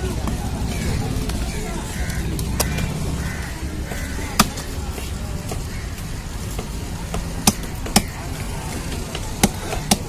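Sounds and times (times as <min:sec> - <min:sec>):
low market din: 0:00.0 - 0:10.0.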